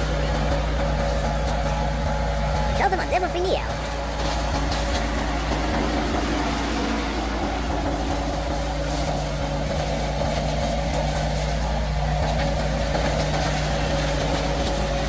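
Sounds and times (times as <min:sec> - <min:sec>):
large engine droning: 0:00.0 - 0:02.8, 0:03.6 - 0:15.0.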